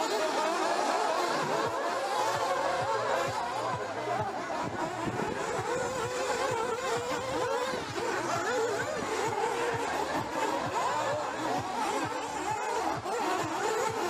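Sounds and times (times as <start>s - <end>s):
rc car engines whining: 0.0s - 14.0s.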